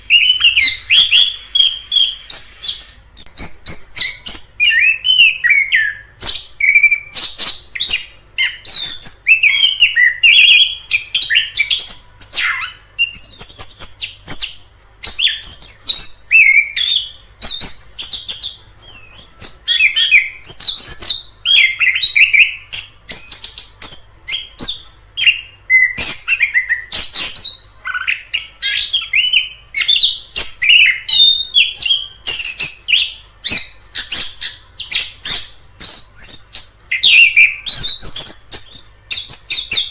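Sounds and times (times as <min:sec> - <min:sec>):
thrush singing whistled phrases: 0:00.0 - 0:39.9.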